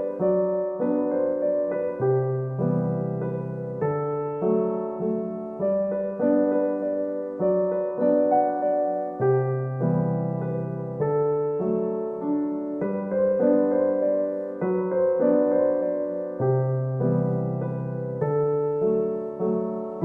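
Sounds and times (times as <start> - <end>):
gentle piano chords: 0.0 - 20.0.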